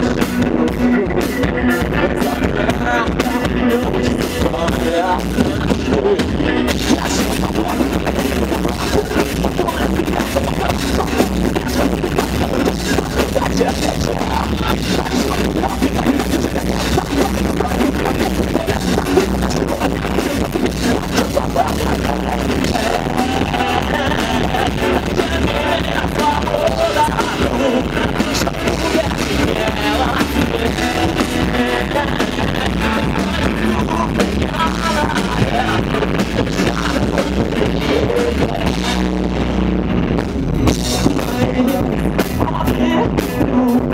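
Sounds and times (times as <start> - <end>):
drum kit: 0.0 - 43.9
electric guitars: 0.0 - 43.9
singer's vocals: 0.0 - 43.9.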